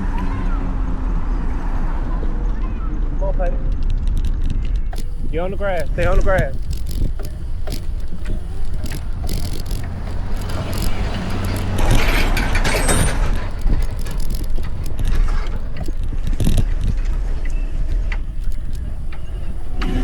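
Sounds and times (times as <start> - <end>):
bike tyre and drivetrain noise: 0.0 - 20.0
wind rumbling on microphone: 0.0 - 20.0.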